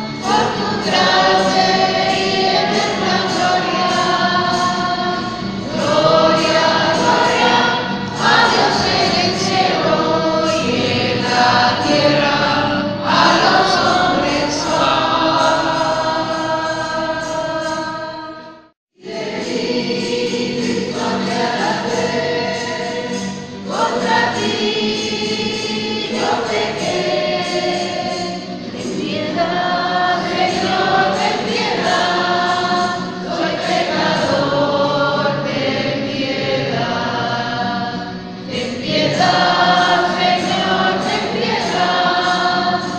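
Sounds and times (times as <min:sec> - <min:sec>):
choir singing a hymn: 0:00.0 - 0:42.9.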